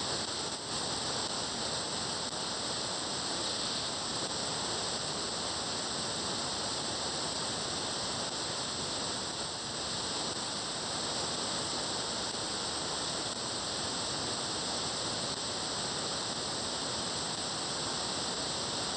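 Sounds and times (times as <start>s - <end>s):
radio static hiss: 0.0s - 18.9s.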